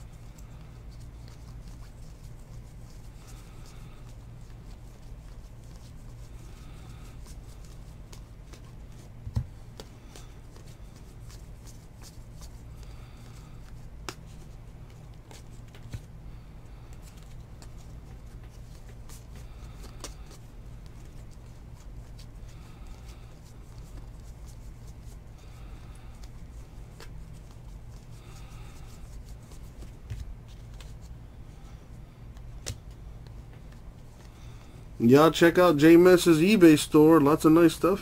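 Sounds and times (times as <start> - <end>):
trading cards sliding and flipping: 0.0 - 34.8
steady low hum: 0.0 - 38.0.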